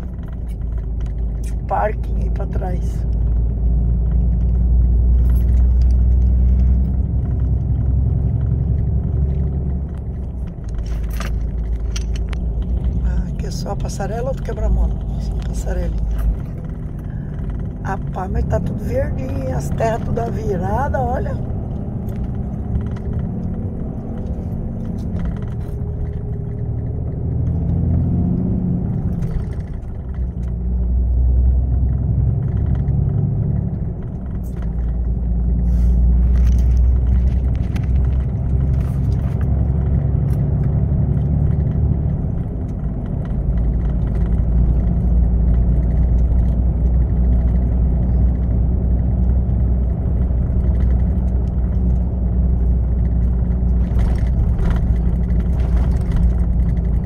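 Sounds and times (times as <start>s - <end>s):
light clicks and rattles: 0.0s - 57.0s
lorry engine and tyres rumbling: 0.0s - 57.0s.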